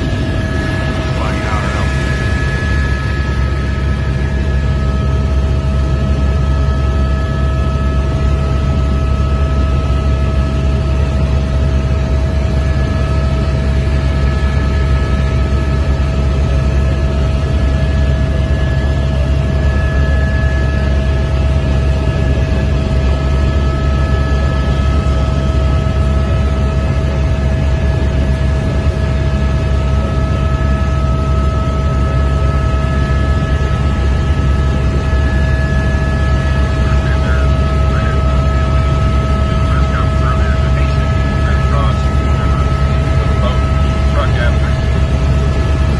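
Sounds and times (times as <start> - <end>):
helicopter rotor and engine drone: 0.0 - 45.9
high-pitched whine: 0.0 - 45.9.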